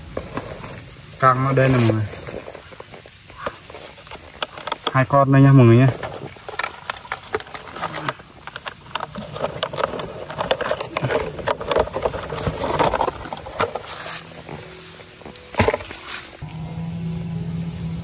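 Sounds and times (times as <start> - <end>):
plastic bottle crackling: 0.0 - 16.4
hands rustling in soil and leaves: 0.0 - 16.5.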